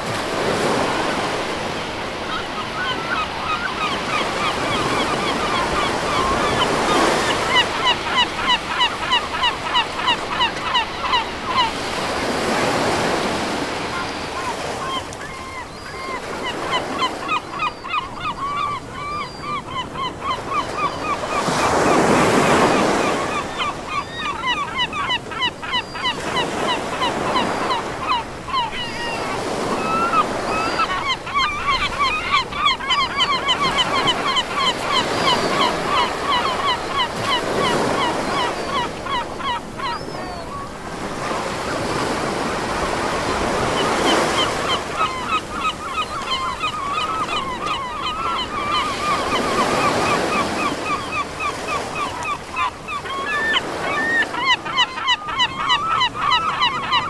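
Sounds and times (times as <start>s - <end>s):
surf washing in and out: 0.0s - 17.5s, 26.2s - 54.7s
flock of birds calling: 0.4s - 57.0s.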